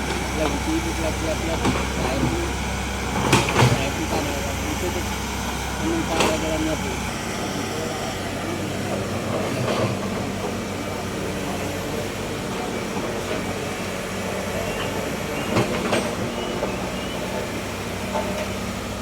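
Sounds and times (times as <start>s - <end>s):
large diesel engine running: 0.0s - 19.0s.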